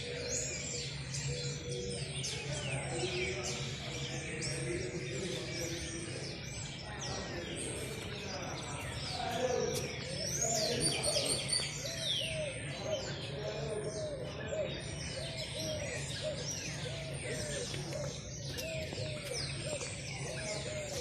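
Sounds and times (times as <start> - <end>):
faint murmur of voices: 0.0 - 21.0
small birds chirping: 0.0 - 21.0.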